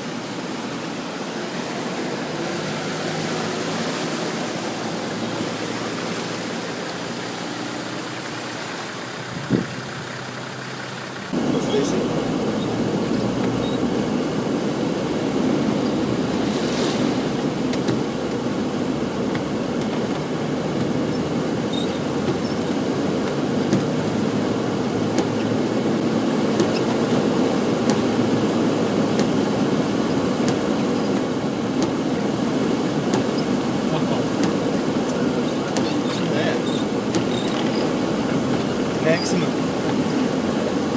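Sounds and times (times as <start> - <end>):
floodwater rushing: 0.0 - 40.9.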